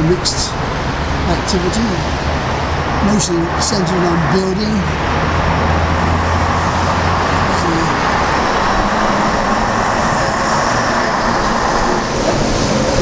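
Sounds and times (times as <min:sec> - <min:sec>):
low engine hum: 0:00.0 - 0:13.0
passing vehicles rush: 0:00.0 - 0:13.0.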